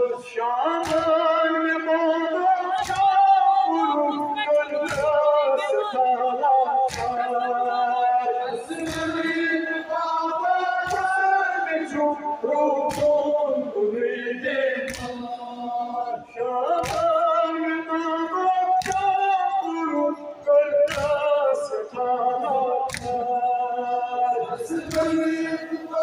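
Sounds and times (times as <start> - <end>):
group singing a lament: 0.0 - 26.0.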